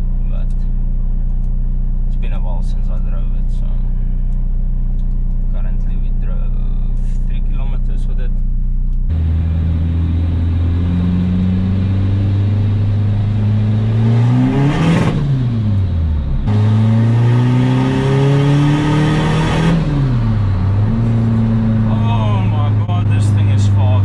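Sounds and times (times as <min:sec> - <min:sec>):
diesel engine accelerating: 0:00.0 - 0:24.0.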